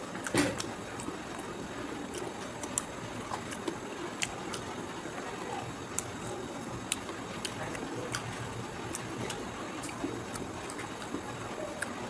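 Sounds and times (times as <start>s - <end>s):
chewing and mouth noises: 0.1s - 12.0s.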